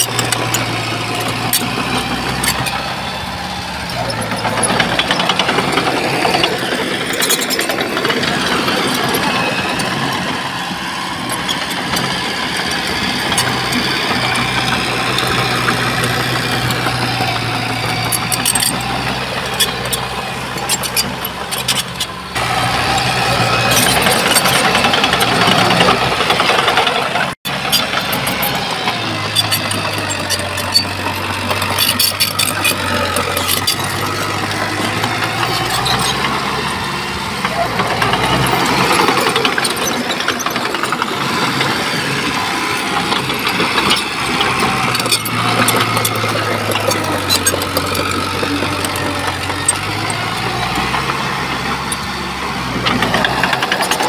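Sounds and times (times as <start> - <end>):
metal clicks and clanks: 0.0 - 2.8, 3.8 - 10.2, 11.3 - 22.2, 23.4 - 54.0
diesel engine under load: 0.0 - 54.0.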